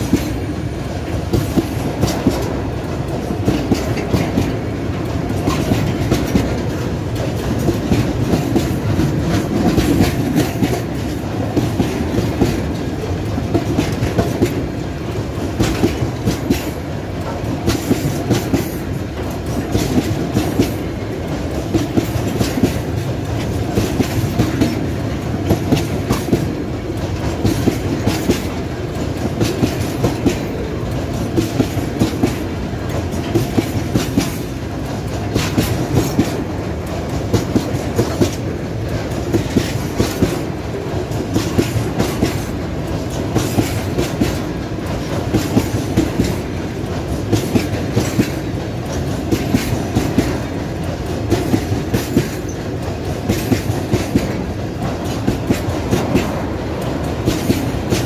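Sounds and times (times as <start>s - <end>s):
clickety-clack of rail joints: 0.0s - 58.0s
train wheels rumbling on rail: 0.0s - 58.0s.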